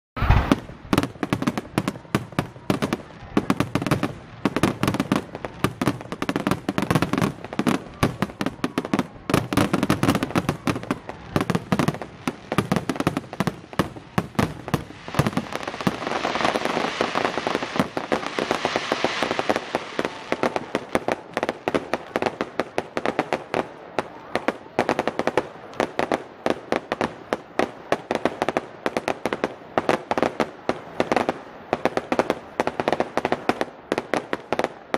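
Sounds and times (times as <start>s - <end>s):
fireworks bursting and banging: 0.2s - 34.9s
fireworks crackling hiss: 0.2s - 34.9s.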